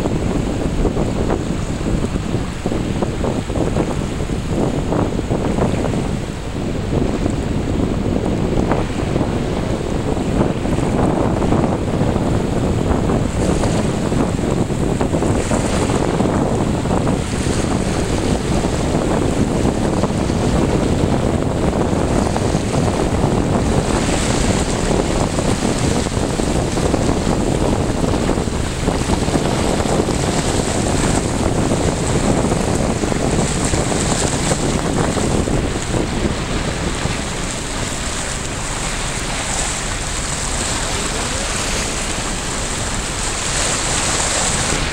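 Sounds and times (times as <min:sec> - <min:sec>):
moving water in currents: 0:00.0 - 0:44.9
wind on microphone: 0:00.0 - 0:44.9.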